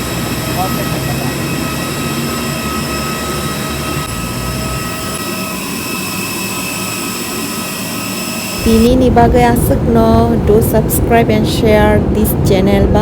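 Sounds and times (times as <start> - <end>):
high whining tones: 0.0 - 13.0
mechanical drone: 0.0 - 13.0.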